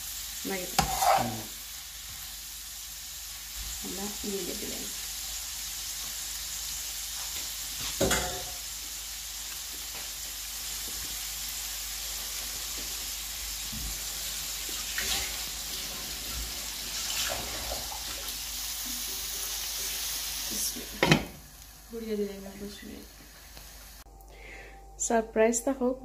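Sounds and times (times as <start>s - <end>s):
food sizzling in a frying pan: 0.0s - 24.1s.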